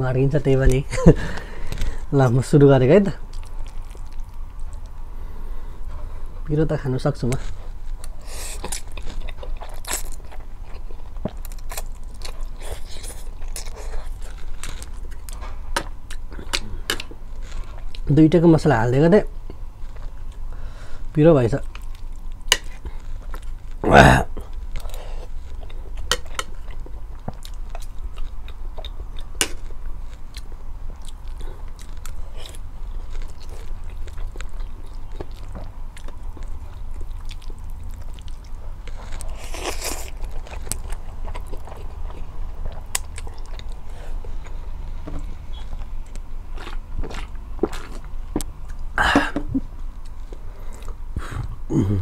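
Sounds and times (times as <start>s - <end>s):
person chewing noodles: 3.2s - 6.4s, 7.4s - 18.0s, 21.6s - 52.0s.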